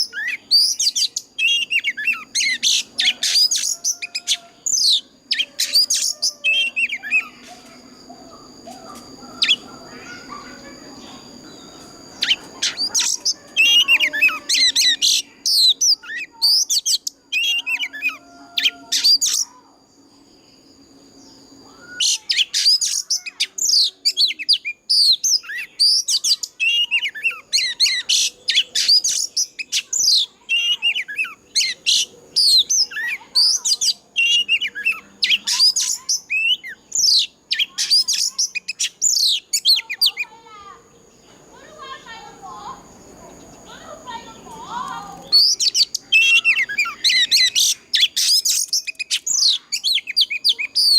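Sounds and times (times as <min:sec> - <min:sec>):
bird singing whistled chattering song: 0:00.0 - 0:41.3, 0:43.3 - 0:50.9.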